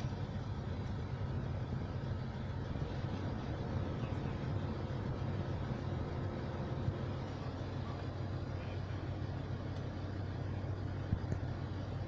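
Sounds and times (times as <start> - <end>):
air-conditioning blower rushing: 0.0 - 12.0
idling engine hum: 0.0 - 12.0.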